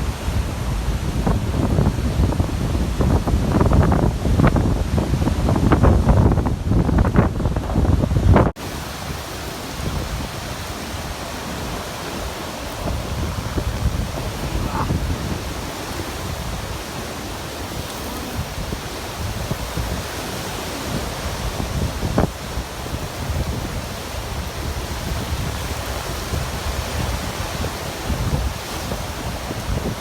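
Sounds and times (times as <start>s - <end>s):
surf rushing: 0.0s - 30.0s
wind buffeting microphone: 0.0s - 30.0s.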